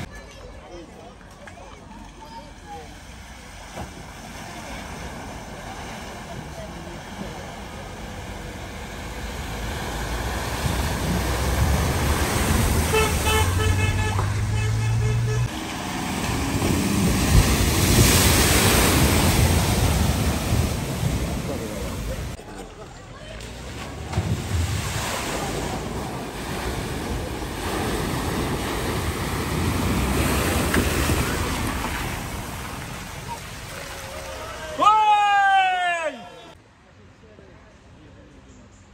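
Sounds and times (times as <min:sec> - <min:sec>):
water rushing and splashing: 0:01.2 - 0:22.4, 0:23.3 - 0:35.6
car driving through deep water: 0:02.4 - 0:34.8.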